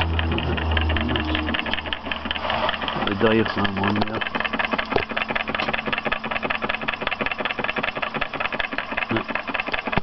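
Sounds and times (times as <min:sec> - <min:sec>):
stirling engine clattering: 0:00.0 - 0:10.0.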